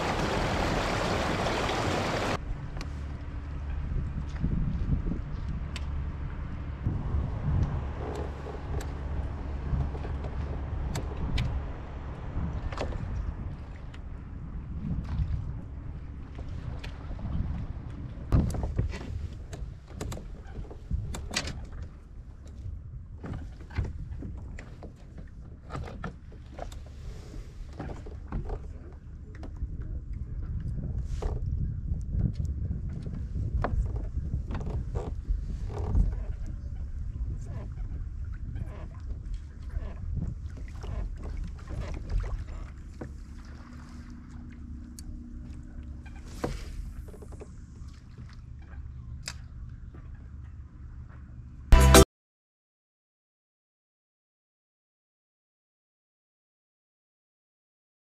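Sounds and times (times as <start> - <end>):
wind rumble on microphone: 0.0 - 51.8
water against kayak hull: 0.0 - 51.9.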